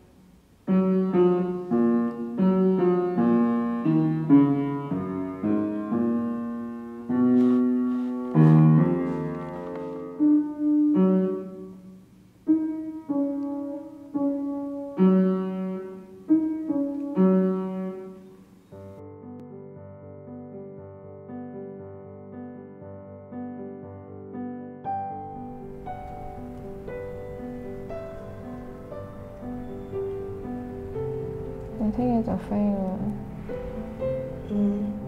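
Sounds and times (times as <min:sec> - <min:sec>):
slow gentle piano melody: 0:00.0 - 0:35.0.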